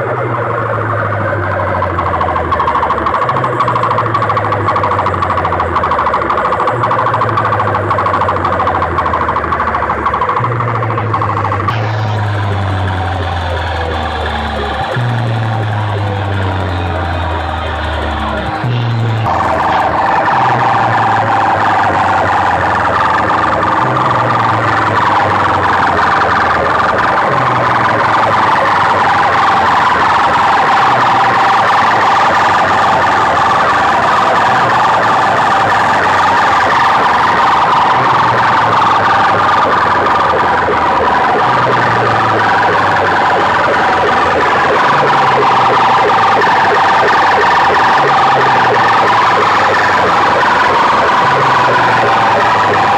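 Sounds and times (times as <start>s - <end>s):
loud siren-like tone from loudspeakers: 0.0s - 52.9s
low pulse: 0.0s - 52.9s.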